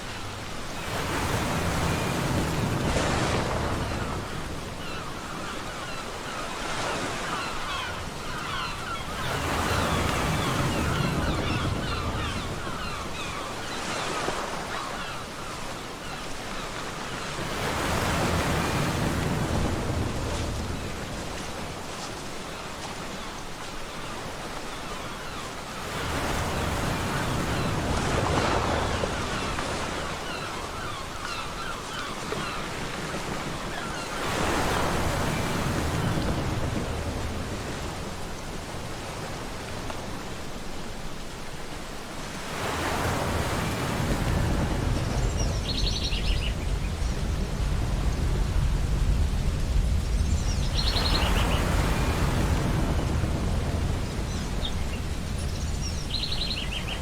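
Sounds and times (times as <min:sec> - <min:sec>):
ocean surf breaking: 0:00.0 - 0:16.1, 0:17.2 - 0:22.2, 0:25.8 - 0:57.0.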